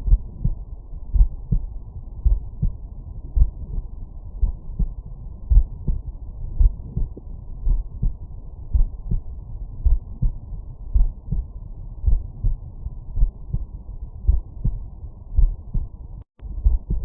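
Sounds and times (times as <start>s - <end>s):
muffled heartbeat: 0.0s - 17.0s.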